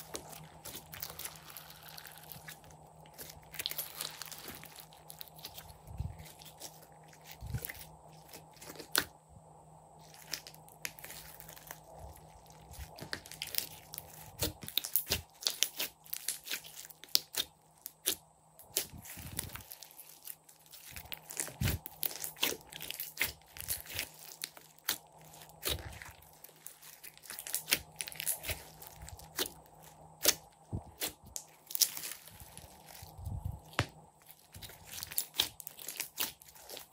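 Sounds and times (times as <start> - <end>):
slime squishing with sticky pops: 0.0 - 9.1, 10.0 - 36.9.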